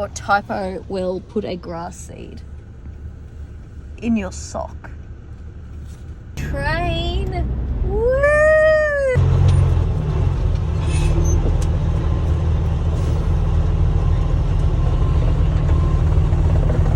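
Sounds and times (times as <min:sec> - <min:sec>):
car cabin road rumble: 0:00.0 - 0:16.9.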